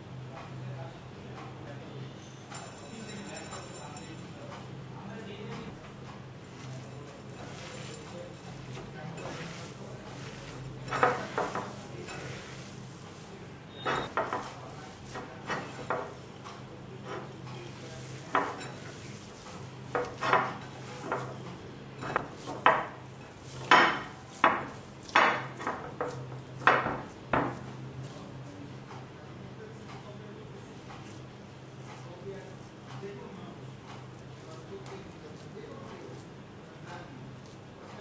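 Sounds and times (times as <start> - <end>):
hands kneading wet mixture: 5.7 - 29.2, 29.9 - 38.0.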